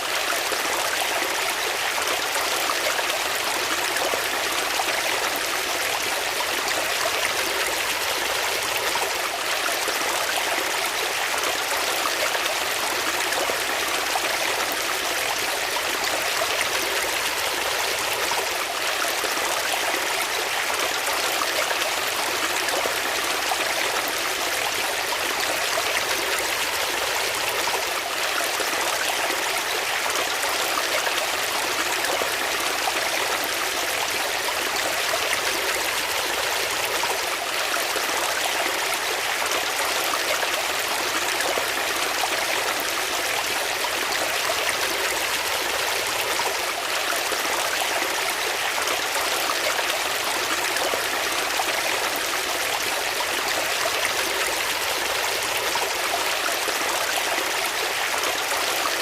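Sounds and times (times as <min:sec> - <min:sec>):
stream rushing and trickling: 0:00.0 - 0:59.0.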